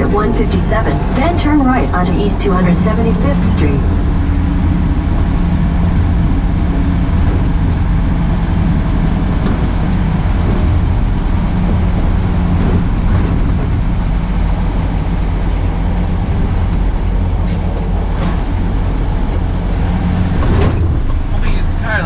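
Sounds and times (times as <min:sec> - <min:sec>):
truck engine and road rumble: 0:00.0 - 0:22.0.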